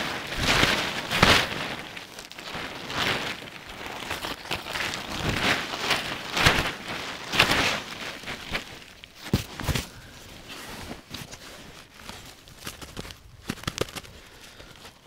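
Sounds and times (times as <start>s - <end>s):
fabric rustling and swishing: 0.0s - 15.0s.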